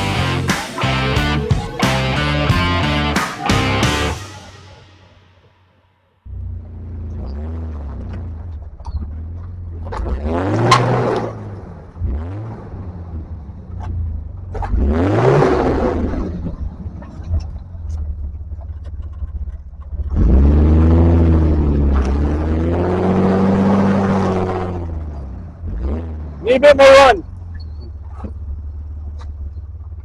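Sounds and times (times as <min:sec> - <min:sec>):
off-road engine revving: 0:00.0 - 0:04.2, 0:06.3 - 0:18.3, 0:19.9 - 0:29.4.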